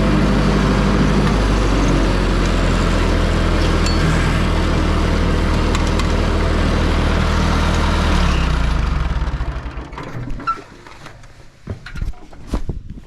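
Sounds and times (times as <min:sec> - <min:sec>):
tractor engine running: 0:00.0 - 0:12.5.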